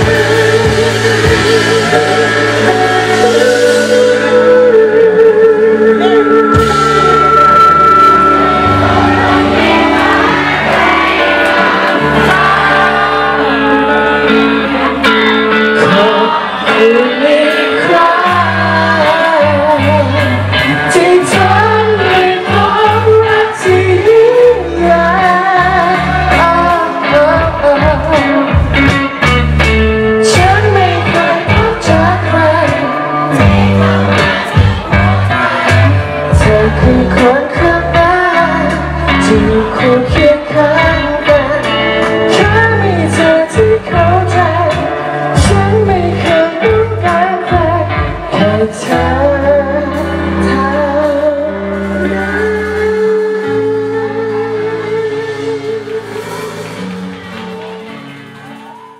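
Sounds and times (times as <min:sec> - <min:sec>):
woman singing lead: 0:00.0 - 0:56.8
drums: 0:00.0 - 0:58.9
electric guitars: 0:00.0 - 0:58.9.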